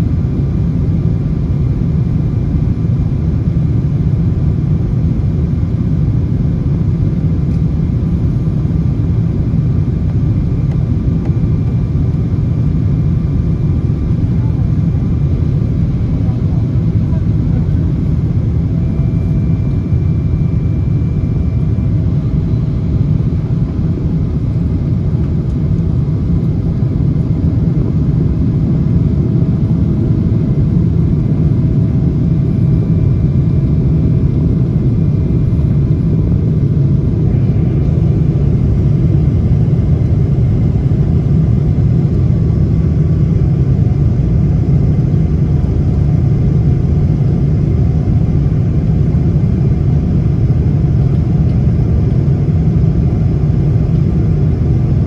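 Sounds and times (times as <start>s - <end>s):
airliner cabin engine rumble: 0.0s - 55.0s
faint engine whine: 0.0s - 55.0s.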